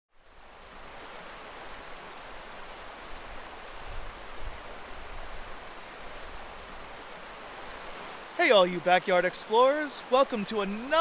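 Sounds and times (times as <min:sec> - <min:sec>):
water running over rocks: 0:00.3 - 0:11.0.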